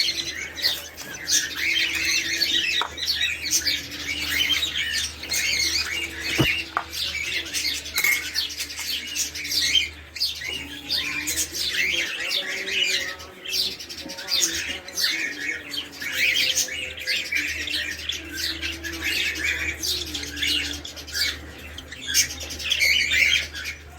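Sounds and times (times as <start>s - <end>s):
caged birds chirping and squawking: 0.0s - 23.9s.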